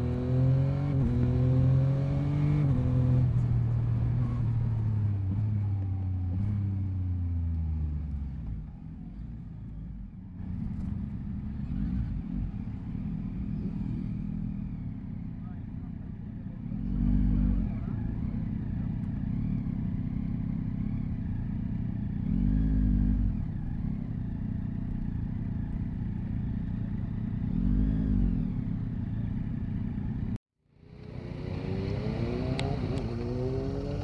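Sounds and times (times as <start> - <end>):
motorcycle engine revving: 0.0 - 8.3, 10.4 - 34.0.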